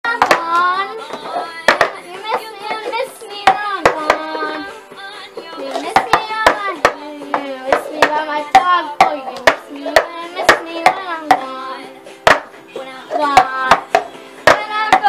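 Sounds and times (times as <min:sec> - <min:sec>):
plastic cups rapped on a desk: 0:00.1 - 0:04.6, 0:05.4 - 0:11.6, 0:12.2 - 0:15.0
child singing: 0:00.1 - 0:12.1, 0:12.7 - 0:15.0.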